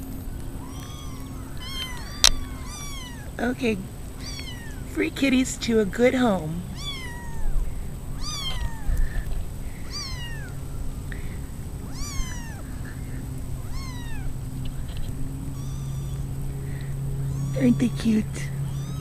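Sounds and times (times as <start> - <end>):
kittens meowing: 0.1 - 5.0, 6.6 - 19.0.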